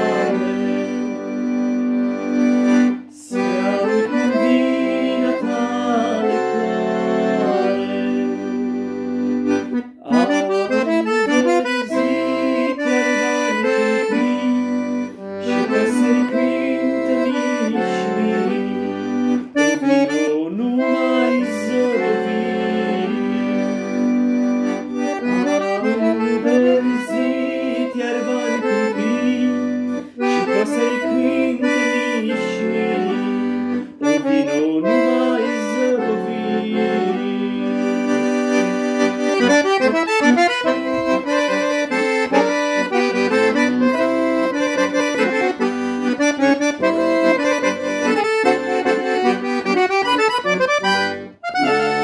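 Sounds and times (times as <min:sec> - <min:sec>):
accordion playing a melody: 0:00.0 - 0:52.0.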